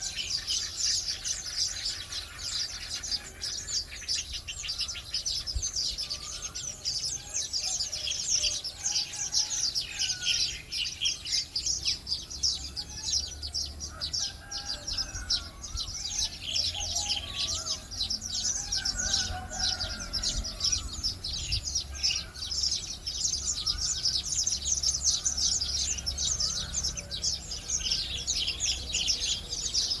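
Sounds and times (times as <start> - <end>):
flock of birds chattering: 0.0 - 30.0.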